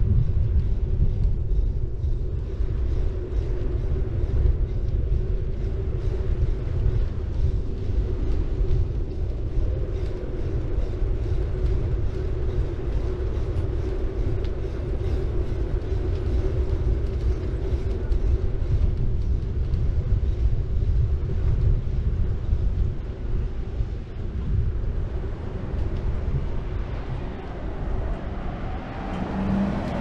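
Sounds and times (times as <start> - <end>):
bike tyres rolling on road: 0.0 - 30.0
wind rumble on microphone: 0.0 - 30.0.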